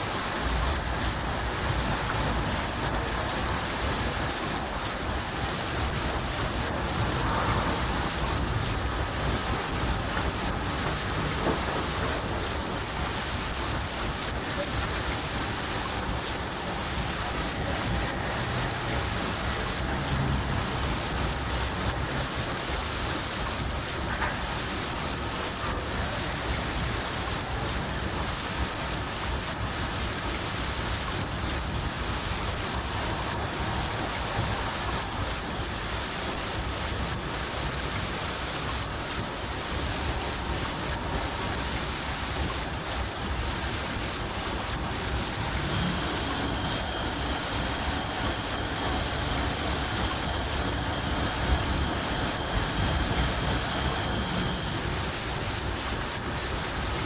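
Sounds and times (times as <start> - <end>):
cricket chirping: 0.0 - 57.0
rain pattering: 0.0 - 57.0.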